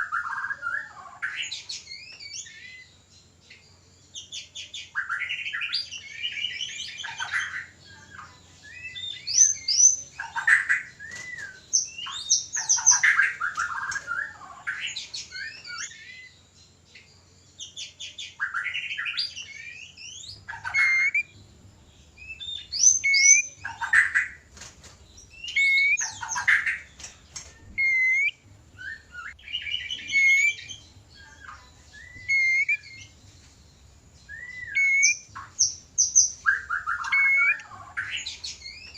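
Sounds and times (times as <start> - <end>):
songbird whistling and trilling: 0.0 - 2.9, 4.1 - 16.4, 17.6 - 21.4, 22.2 - 24.5, 25.2 - 33.3, 34.2 - 38.9.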